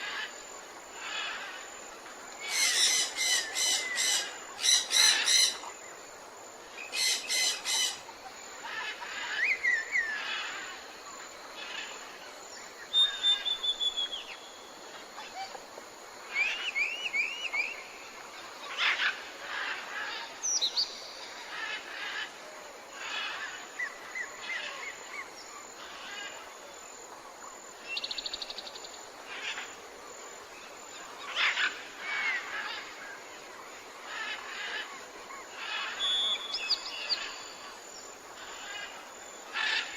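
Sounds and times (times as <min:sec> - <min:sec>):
forest birds calling and singing: 0:00.0 - 0:26.8, 0:27.4 - 0:29.9, 0:30.6 - 0:39.9
faint steady hiss: 0:00.0 - 0:39.9.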